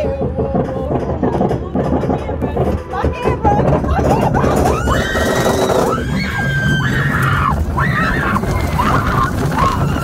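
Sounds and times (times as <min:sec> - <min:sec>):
roller coaster wheels rumbling on track: 0:00.0 - 0:10.0
wind: 0:00.0 - 0:10.0.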